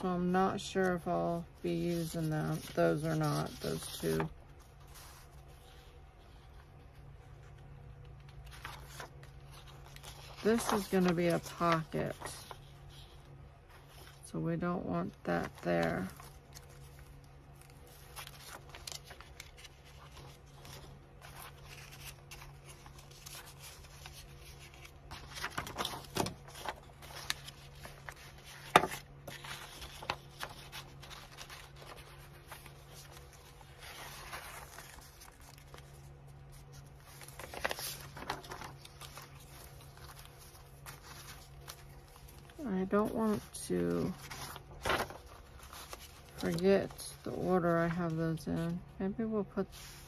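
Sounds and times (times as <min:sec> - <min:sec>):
paper rustling: 0:00.0 - 0:48.7, 0:49.6 - 0:50.0
steady low hum: 0:00.0 - 0:50.0.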